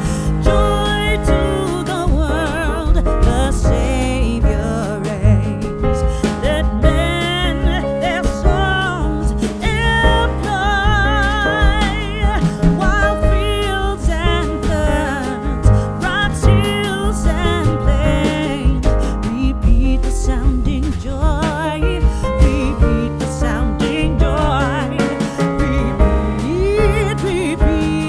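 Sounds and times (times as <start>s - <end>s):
instruments with heavy bass: 0.0s - 28.0s
person singing with vibrato: 0.0s - 28.0s.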